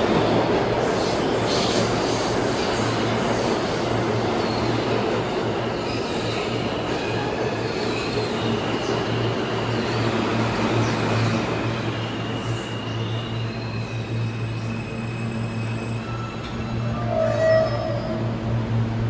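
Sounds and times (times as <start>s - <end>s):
wheels squealing on rails: 0.0s - 18.9s
subway train rumbling: 0.0s - 19.0s.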